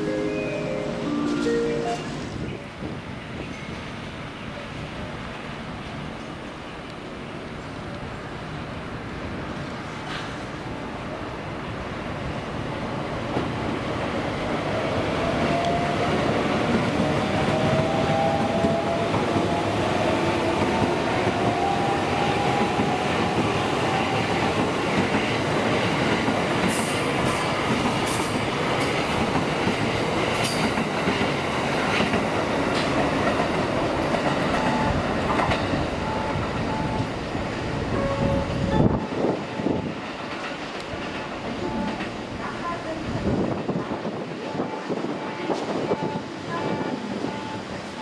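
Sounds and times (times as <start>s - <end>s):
train wheels rumbling on rail: 2.2s - 48.0s.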